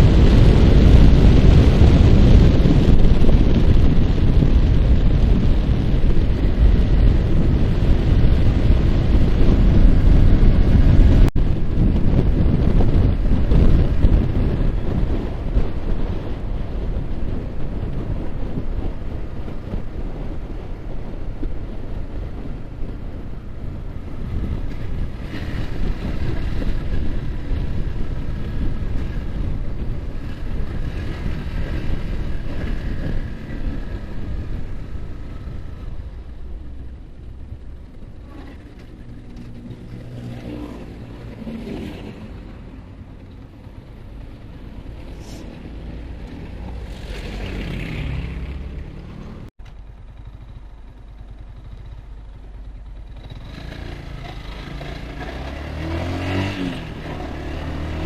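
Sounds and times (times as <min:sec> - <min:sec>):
wind rush over microphone: 0:00.0 - 0:49.6, 0:53.1 - 0:58.0
motorcycle engine running: 0:00.0 - 0:58.0.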